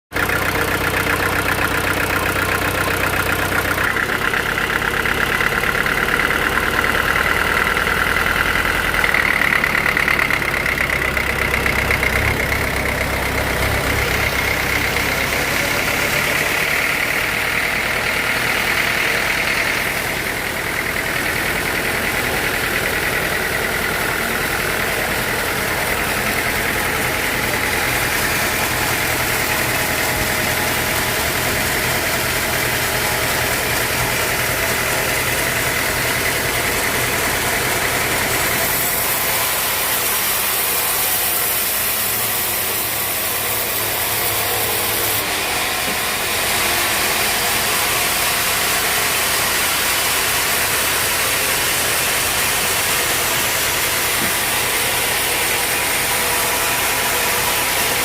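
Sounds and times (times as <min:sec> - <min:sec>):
sawmill engine drone: 0:00.0 - 0:58.0
high machine whine: 0:00.2 - 0:58.0.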